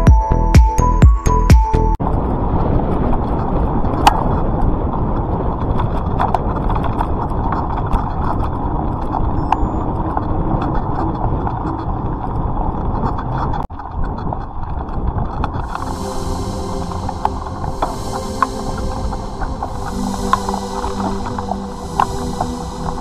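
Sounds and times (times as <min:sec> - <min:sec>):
wind rumble on microphone: 0:02.0 - 0:23.0.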